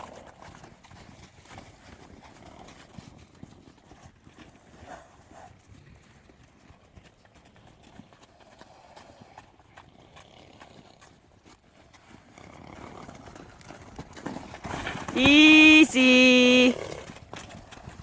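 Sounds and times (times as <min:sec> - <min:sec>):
horse hoofbeats: 0:00.0 - 0:18.0.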